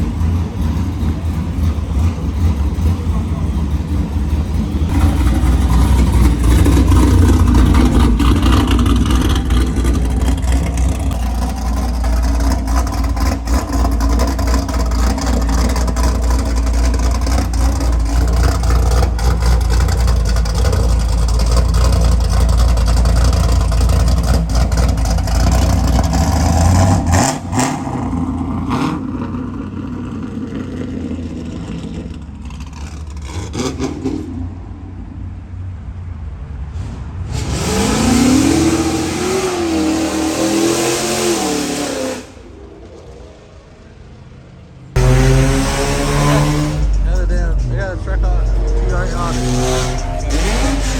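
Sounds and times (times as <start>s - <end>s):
car engine rumbling and revving: 0.0s - 50.9s.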